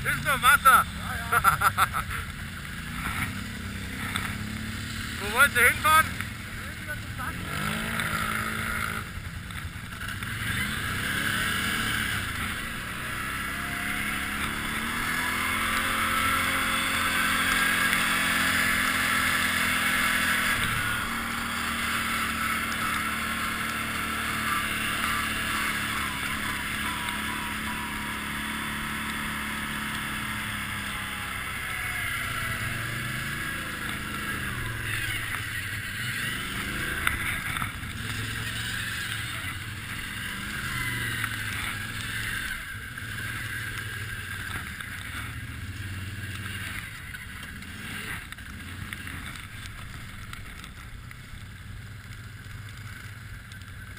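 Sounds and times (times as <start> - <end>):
quad engine revving: 0.0 - 50.8.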